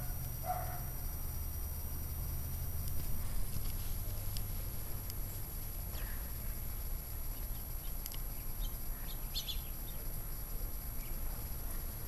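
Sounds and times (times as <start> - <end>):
faint small birds chirping: 0.0 - 10.2, 10.8 - 12.0.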